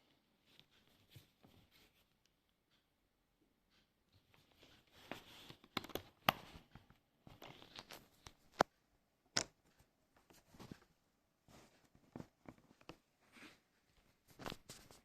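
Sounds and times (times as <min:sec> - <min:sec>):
rustling and scraping: 0:00.4 - 0:02.2, 0:03.7 - 0:08.7, 0:09.6 - 0:15.0.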